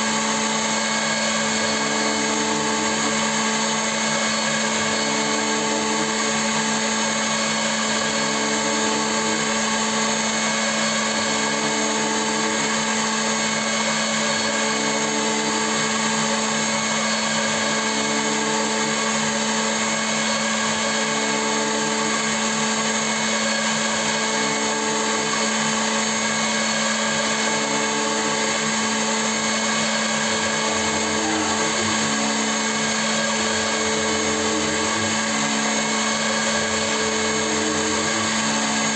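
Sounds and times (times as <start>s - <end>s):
milling machine humming and whining: 0.0s - 38.9s.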